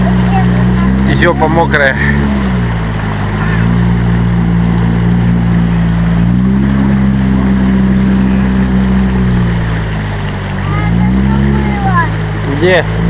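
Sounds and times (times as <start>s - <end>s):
outboard motor running: 0.0s - 13.0s
water rushing past: 0.0s - 13.0s.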